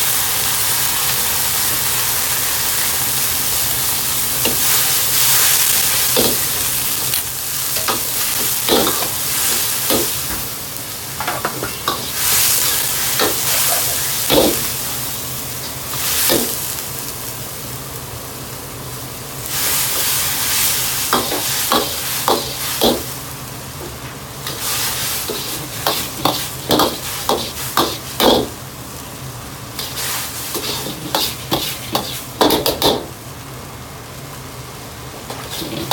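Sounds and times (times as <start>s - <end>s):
food sizzling in a wok: 0.0s - 35.9s.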